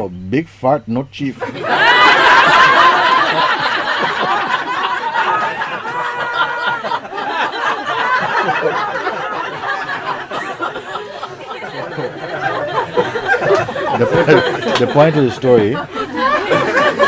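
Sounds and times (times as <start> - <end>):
crowd laughing: 1.4 - 17.0.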